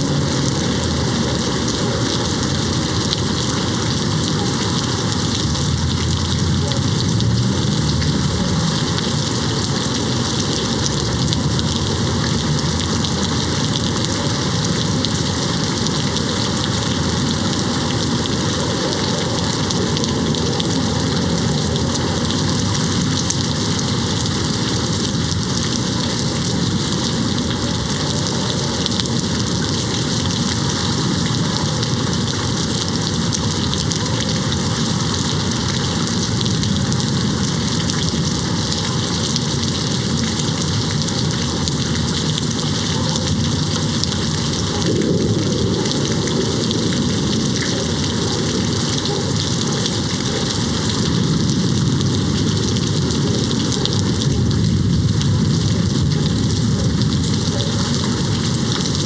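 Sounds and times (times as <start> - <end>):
rain hitting window glass: 0.0 - 59.0.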